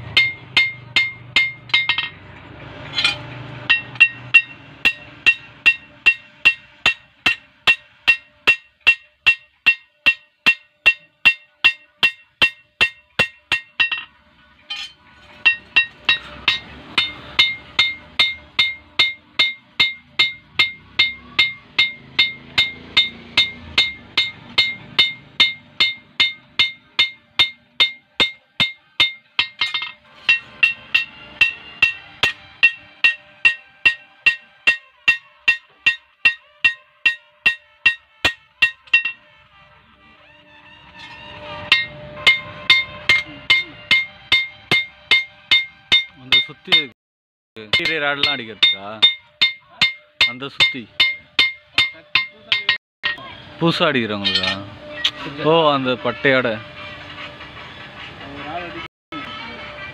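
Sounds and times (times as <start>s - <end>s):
hammer ringing on blade on anvil: 0.1s - 2.2s, 2.9s - 14.1s, 14.7s - 39.3s, 41.7s - 46.9s, 47.6s - 53.4s, 54.2s - 55.2s.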